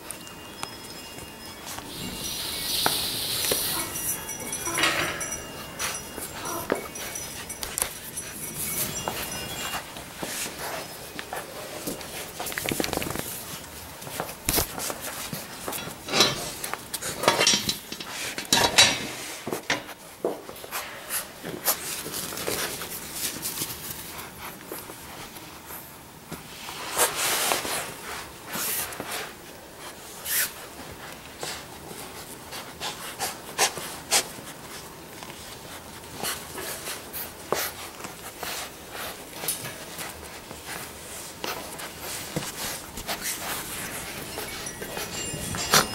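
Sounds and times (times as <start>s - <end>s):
puppies scuffling and rustling: 0.0s - 45.9s.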